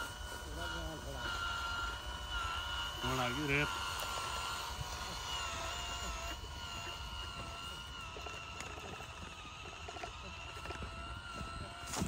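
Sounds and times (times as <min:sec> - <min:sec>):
toy tractor motor whine: 0:00.0 - 0:12.0.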